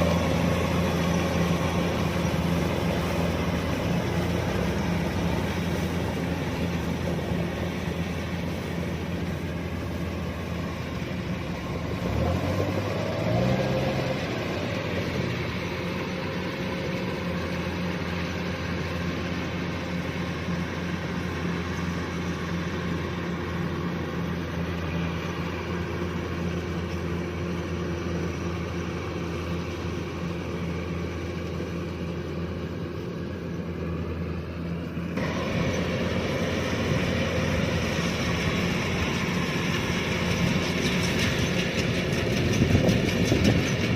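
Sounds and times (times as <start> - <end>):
combine harvester diesel engine droning: 0.0 - 43.9.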